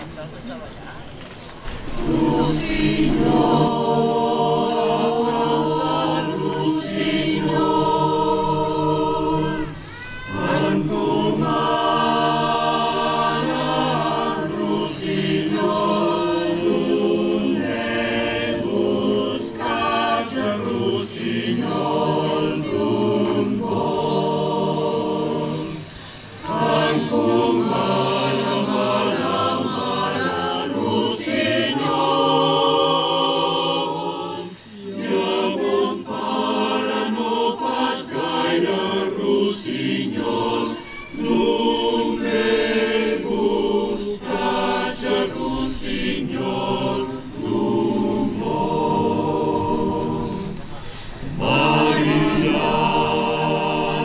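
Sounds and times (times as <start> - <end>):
mixed choir singing in harmony: 1.7 - 54.0.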